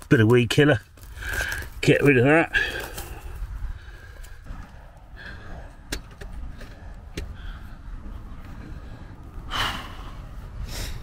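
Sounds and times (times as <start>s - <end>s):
wind rumbling on microphone: 1.0s - 11.0s.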